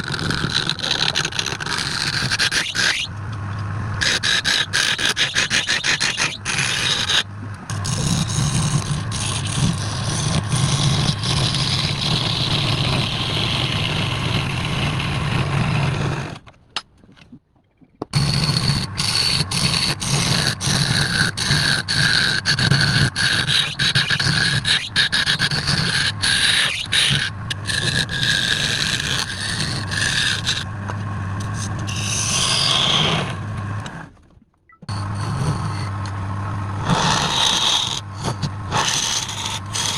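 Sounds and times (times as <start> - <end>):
turning tool scraping wood: 0.0 - 3.1, 4.0 - 16.5, 18.2 - 34.1, 34.9 - 36.2, 36.8 - 39.9
wood lathe motor humming: 4.0 - 16.4, 18.2 - 34.1, 34.9 - 39.9.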